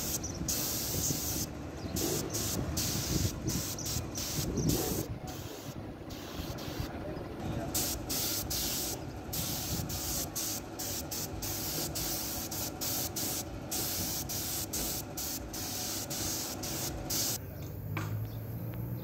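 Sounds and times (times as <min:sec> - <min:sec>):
air spray gun hissing: 0:00.0 - 0:06.9, 0:07.6 - 0:17.4.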